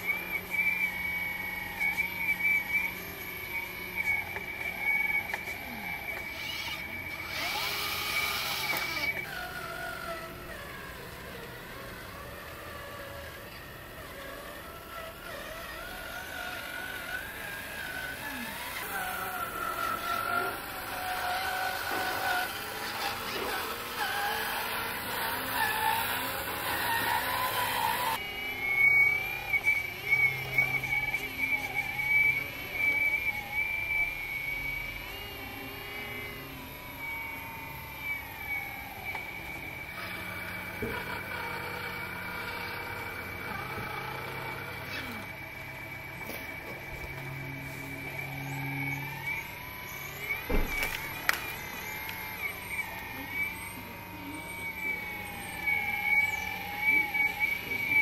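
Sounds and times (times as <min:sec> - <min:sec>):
electric motor and gearbox whine: 0:00.0 - 0:58.0.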